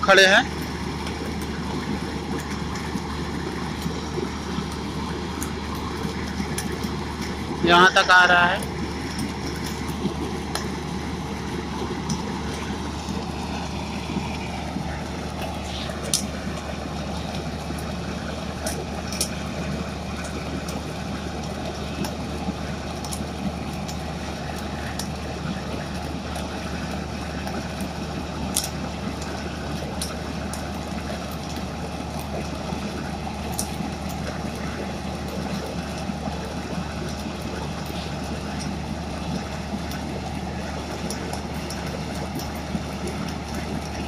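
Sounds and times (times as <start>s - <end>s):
sharp crackles and pops: 0.0s - 44.0s
welding machine humming: 0.0s - 44.0s.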